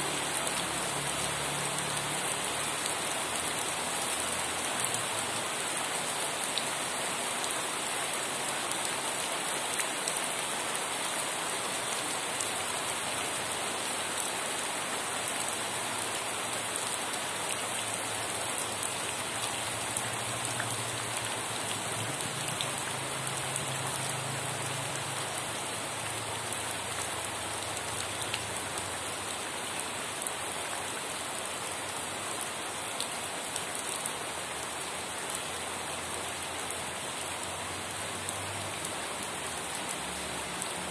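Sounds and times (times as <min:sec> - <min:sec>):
heavy rainfall: 0:00.0 - 0:40.9.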